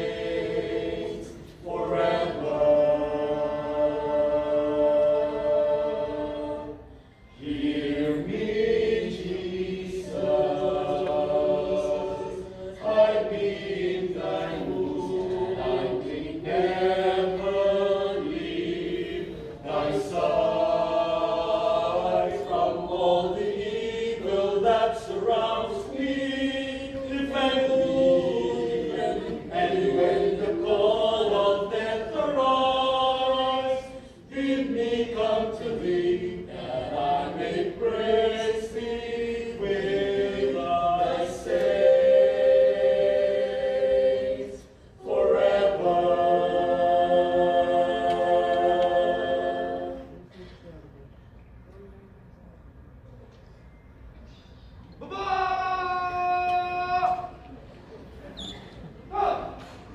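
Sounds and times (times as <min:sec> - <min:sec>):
group of voices singing: 0:00.0 - 0:50.3.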